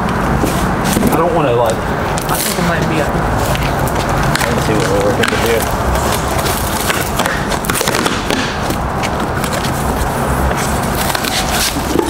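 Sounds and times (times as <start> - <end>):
cardboard flap scraping: 2.2 - 12.0.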